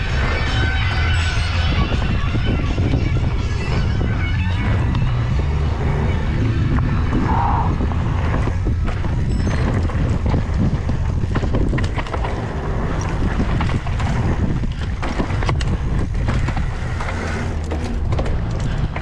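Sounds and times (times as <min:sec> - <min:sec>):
bike rattling over rough ground: 0:00.0 - 0:19.0
wind buffeting microphone: 0:00.0 - 0:19.0.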